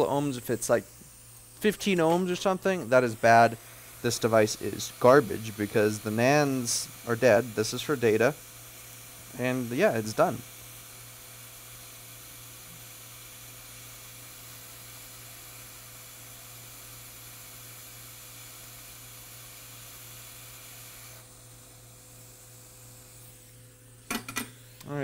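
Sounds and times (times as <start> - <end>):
hot air station hissing: 0.0 - 25.0.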